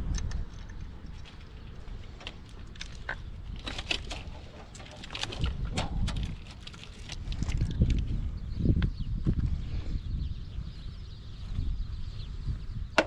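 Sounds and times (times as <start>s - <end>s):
dull low bumps: 0.0s - 13.0s.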